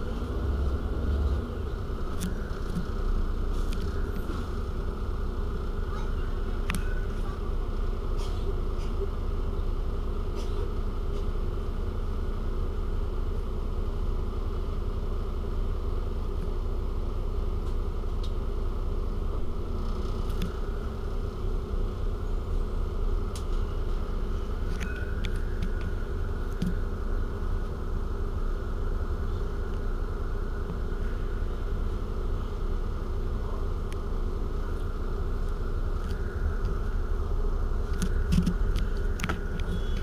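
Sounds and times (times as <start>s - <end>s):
bus engine idling: 0.0s - 40.0s.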